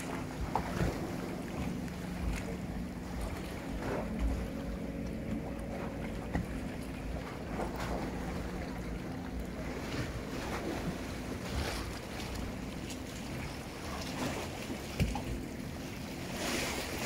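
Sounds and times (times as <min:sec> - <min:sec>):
low steady motor hum: 0:00.0 - 0:17.0
waves lapping and splashing: 0:00.0 - 0:17.0.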